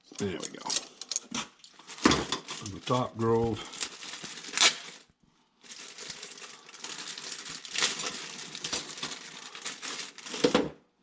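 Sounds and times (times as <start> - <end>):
packaging crinkling and rustling: 0.1 - 10.9.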